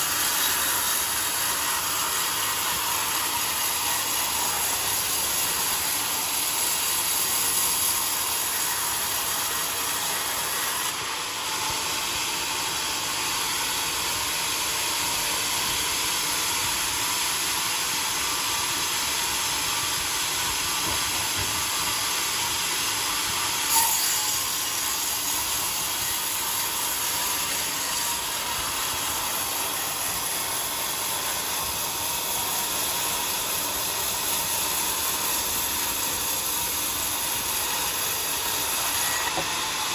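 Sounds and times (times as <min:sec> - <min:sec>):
sawmill running: 0:00.0 - 0:39.9.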